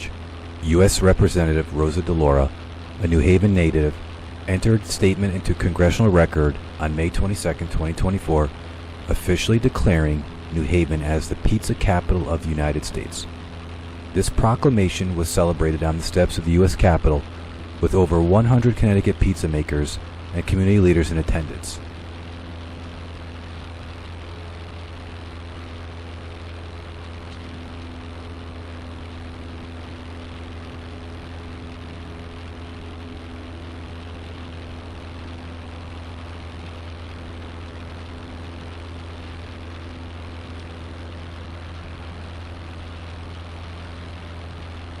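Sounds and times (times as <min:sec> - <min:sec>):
propeller airplane engine drone: 0:00.0 - 0:45.0.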